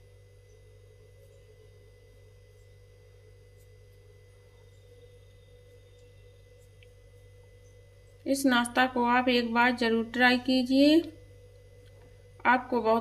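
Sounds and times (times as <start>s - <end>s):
faint hum with high tone: 0.0s - 13.0s.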